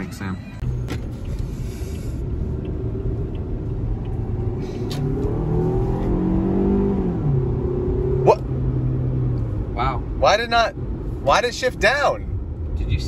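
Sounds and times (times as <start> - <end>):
car engine revving: 0.6 - 13.0.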